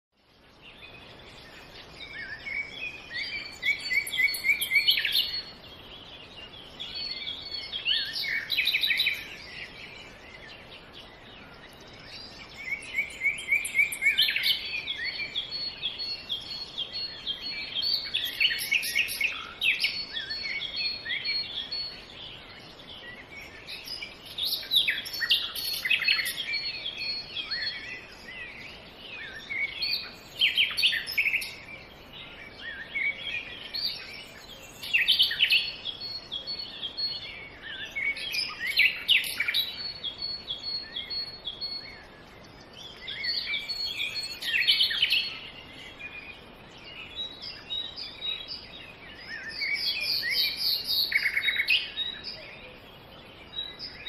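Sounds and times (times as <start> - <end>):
songbirds chirping and trilling: 0.1 - 54.0
steady background hiss: 0.2 - 54.0.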